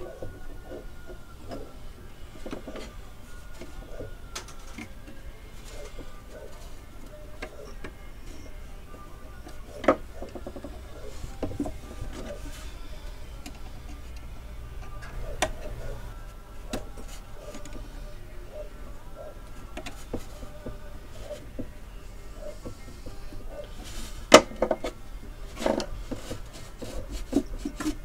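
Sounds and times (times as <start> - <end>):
hand tools scraping metal: 0.0 - 18.7, 19.6 - 28.0.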